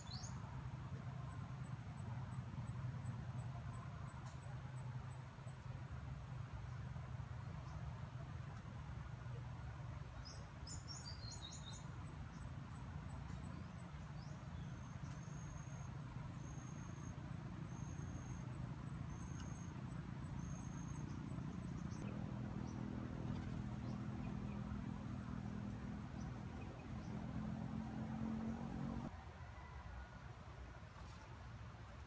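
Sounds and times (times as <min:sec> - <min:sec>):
insects droning: 0:00.0 - 0:32.0
low steady hum: 0:00.0 - 0:32.0.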